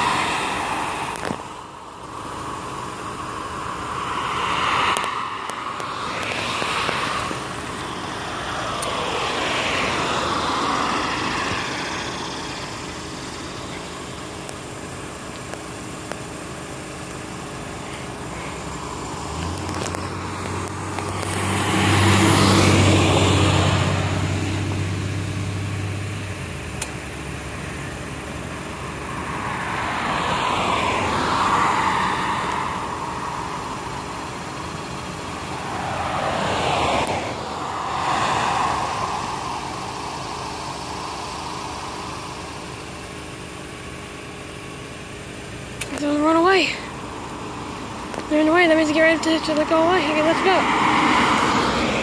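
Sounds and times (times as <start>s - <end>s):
cars passing: 0.0s - 52.0s
low engine hum: 0.0s - 52.0s.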